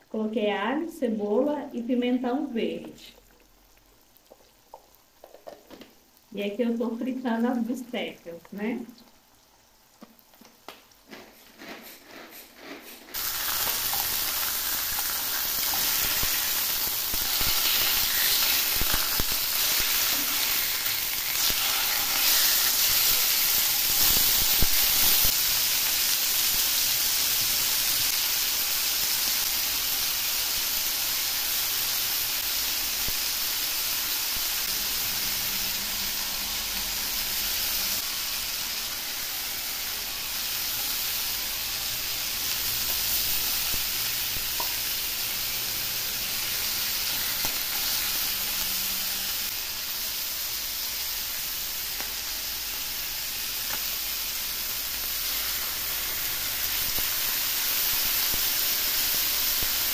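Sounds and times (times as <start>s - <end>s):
pork chops sizzling in oil: 0.0s - 12.0s, 13.1s - 59.9s.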